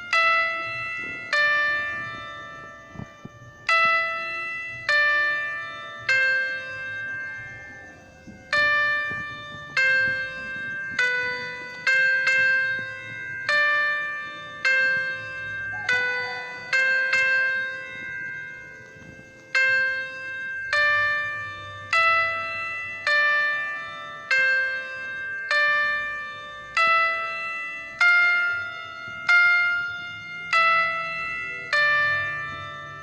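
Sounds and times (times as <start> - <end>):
bell-like keyboard notes: 0.0 - 33.0.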